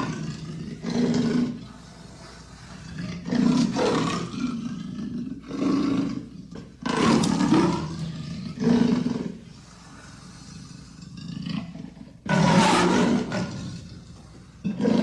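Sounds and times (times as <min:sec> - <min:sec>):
leopard roaring: 0:00.0 - 0:15.0.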